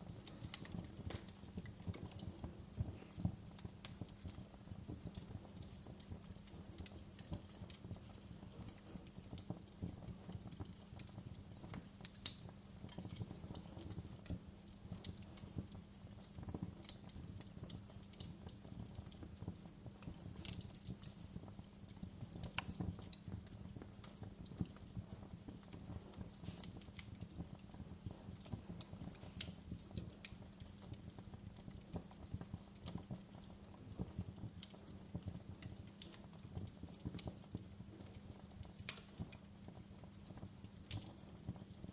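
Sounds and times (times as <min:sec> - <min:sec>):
fire snaps and pops: 0:00.0 - 0:41.9
low fire rumble: 0:00.0 - 0:41.9
wood fire crackling: 0:00.0 - 0:41.9.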